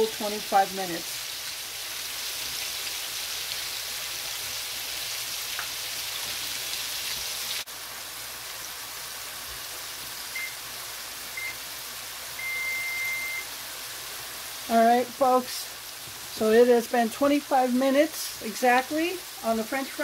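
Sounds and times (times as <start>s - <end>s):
fries sizzling in hot oil: 0.0s - 20.0s.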